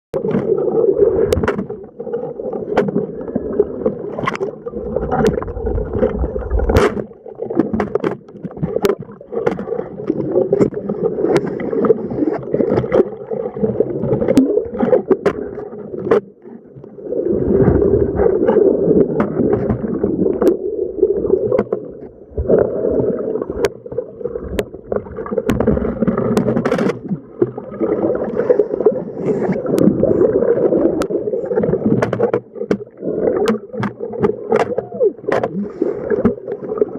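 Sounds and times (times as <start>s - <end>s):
sea water churning: 0.2s - 36.9s.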